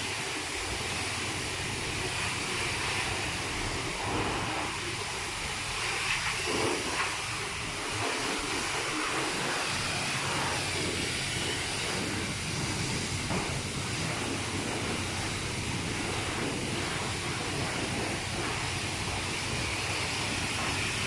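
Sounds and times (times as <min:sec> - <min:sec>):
high-pressure water spray on car: 0:00.0 - 0:21.0.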